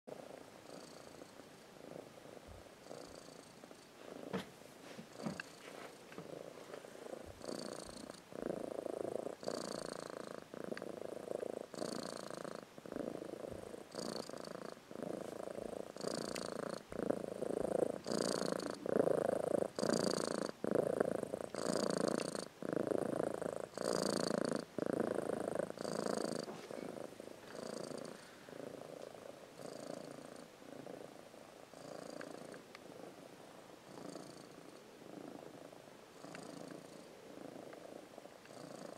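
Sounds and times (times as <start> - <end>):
cat purring: 0.1 - 38.9.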